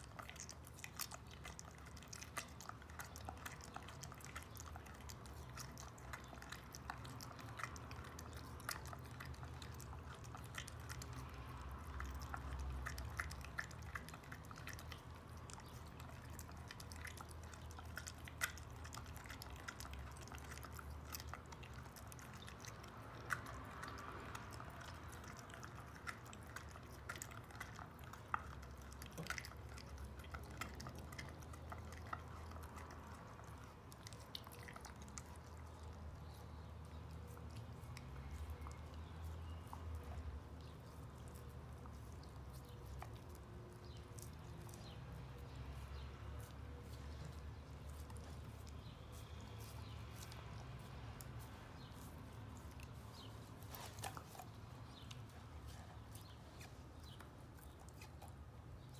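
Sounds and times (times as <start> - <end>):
dog gnawing and licking: 0.0 - 58.9.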